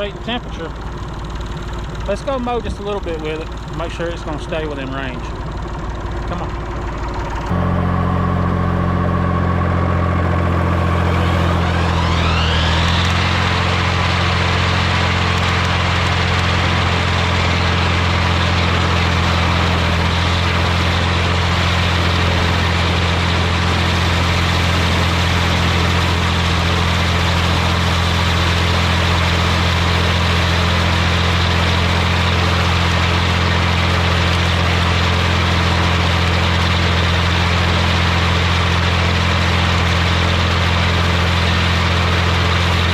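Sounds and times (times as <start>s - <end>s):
engine whine: 0.0s - 42.9s
tractor diesel engine running: 0.0s - 42.9s.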